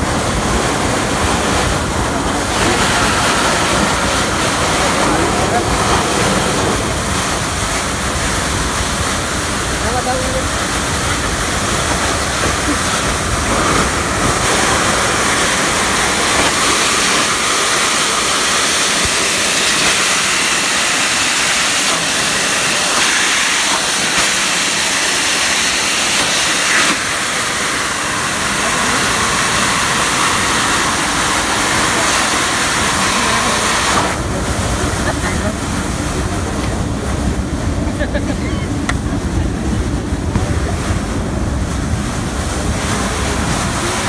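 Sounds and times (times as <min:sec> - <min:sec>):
air hissing out of vent grate: 0:00.0 - 0:35.7.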